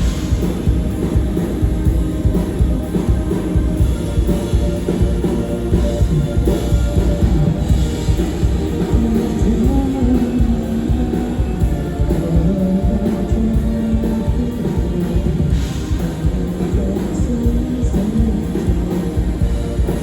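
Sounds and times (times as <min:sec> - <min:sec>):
live rock band music: 0:00.0 - 0:20.0
rapid bass drum and snare hits: 0:00.0 - 0:20.0.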